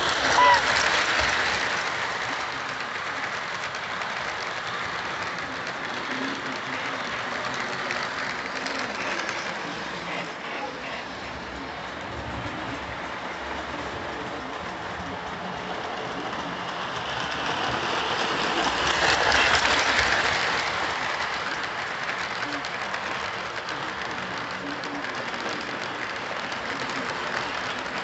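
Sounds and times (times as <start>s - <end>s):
model train wheels clicking on rails: 0.0s - 28.0s.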